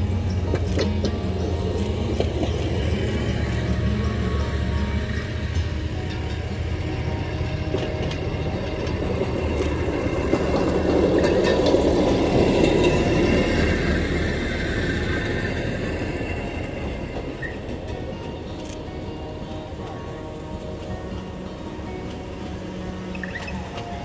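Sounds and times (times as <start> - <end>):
rail speeder engine and wheels: 0.0 - 24.0.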